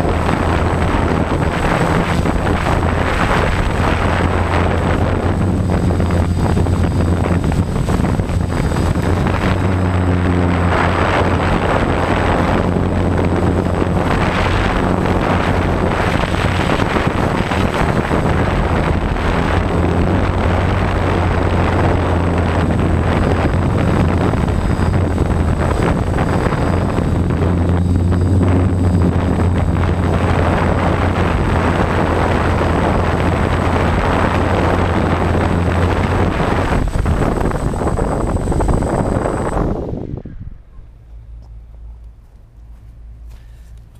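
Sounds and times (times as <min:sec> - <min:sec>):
wind on microphone: 0:00.0 - 0:41.9
drone motors buzzing: 0:00.0 - 0:43.9.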